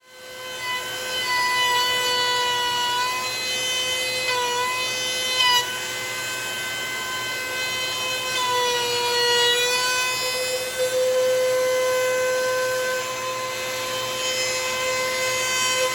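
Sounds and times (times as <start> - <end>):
wood router humming: 0.0 - 15.9.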